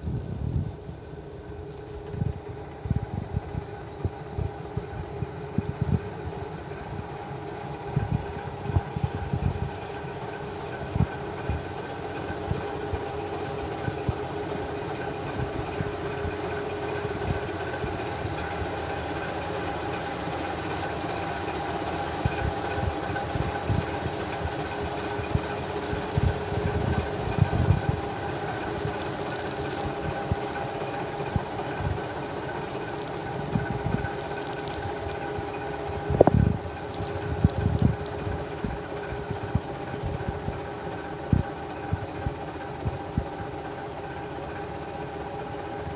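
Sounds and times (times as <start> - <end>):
diesel truck engine idling: 1.3 - 44.4.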